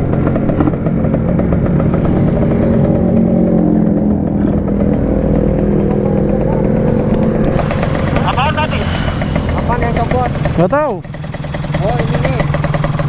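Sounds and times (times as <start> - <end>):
two-stroke motorcycle engine: 0.0 - 13.0.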